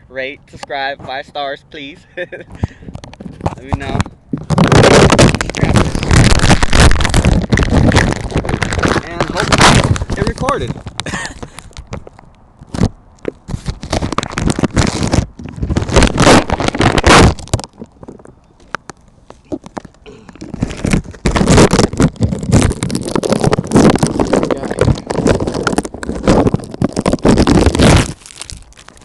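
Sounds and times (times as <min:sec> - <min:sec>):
microphone handling noise: 0:00.0 - 0:29.0.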